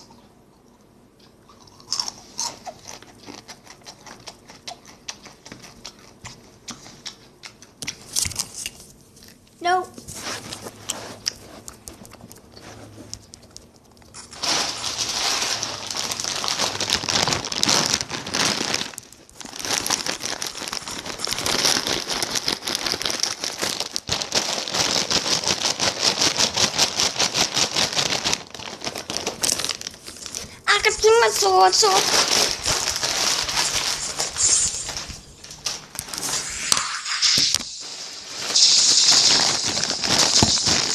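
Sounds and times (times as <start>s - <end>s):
chip bag crinkling: 1.5s - 9.4s, 10.0s - 36.9s, 37.5s - 40.9s.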